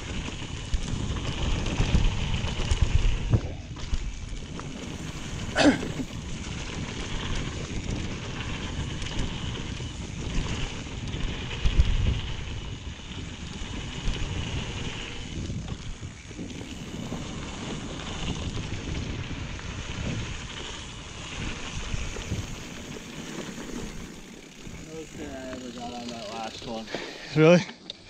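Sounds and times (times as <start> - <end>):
wind rushing over microphone: 0.0 - 27.1
bike rattling: 0.0 - 28.0
bike tyres rolling on dirt: 0.0 - 28.0.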